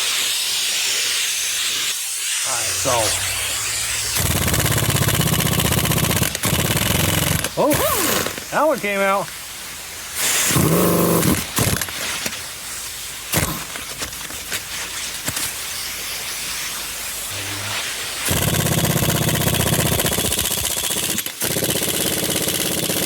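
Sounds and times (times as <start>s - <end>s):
hiss: 0.0s - 22.9s.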